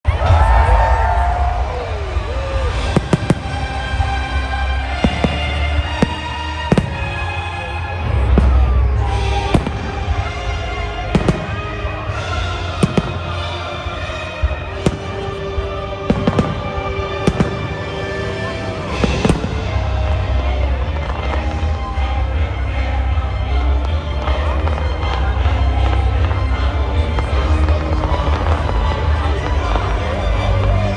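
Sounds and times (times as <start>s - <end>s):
fireworks exploding: 0.1s - 30.9s
music with long held notes: 0.1s - 30.9s.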